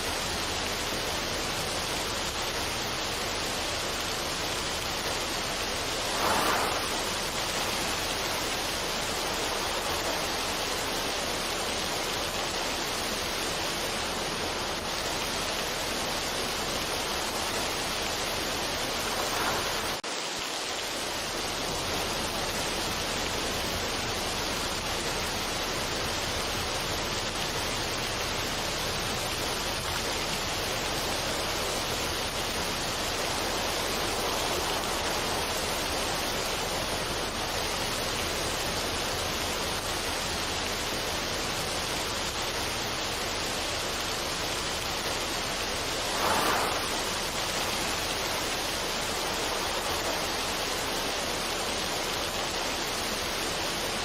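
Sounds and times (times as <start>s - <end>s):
falling water rushing: 0.0s - 54.0s.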